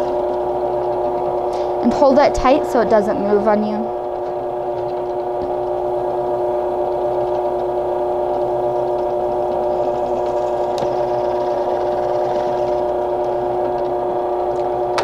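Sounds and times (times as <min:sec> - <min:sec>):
drill press motor humming: 0:00.0 - 0:15.0.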